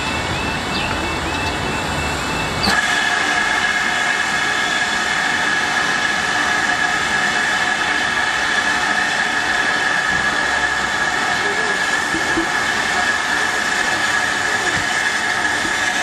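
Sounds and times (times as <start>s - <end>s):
high-pitched squeal: 0.0s - 16.0s
steam train running: 0.0s - 16.0s.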